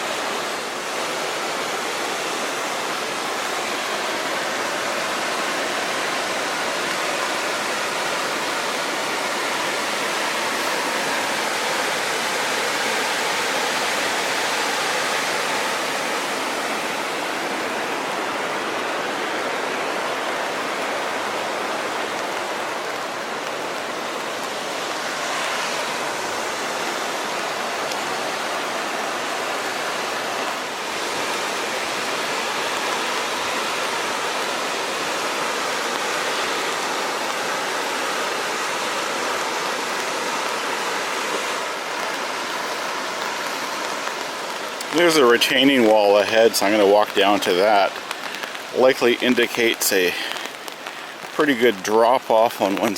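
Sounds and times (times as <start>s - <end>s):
creek rushing: 0.0s - 52.9s.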